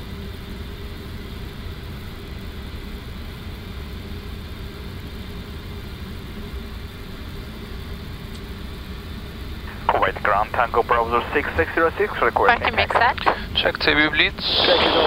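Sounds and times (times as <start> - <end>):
jet engines idling drone: 0.0 - 15.0.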